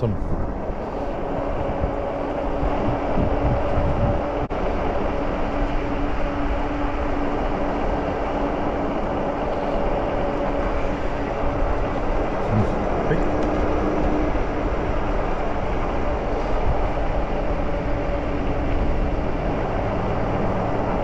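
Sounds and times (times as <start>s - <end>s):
electric bike hum: 0.0s - 21.0s
wind rushing over microphone: 0.0s - 21.0s.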